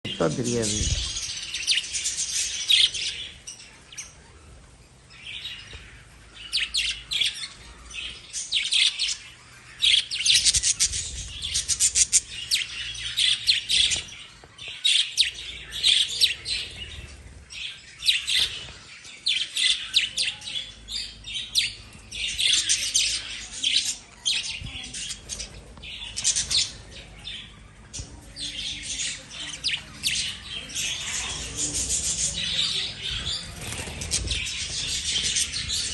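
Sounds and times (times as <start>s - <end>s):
lovebirds chirping: 0.0s - 35.9s.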